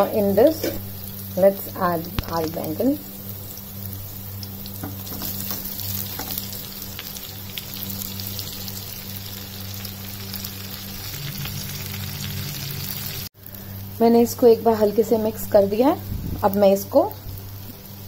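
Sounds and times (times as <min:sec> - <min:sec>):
low hum: 0:00.0 - 0:17.8
vegetables frying in oil: 0:00.0 - 0:18.0.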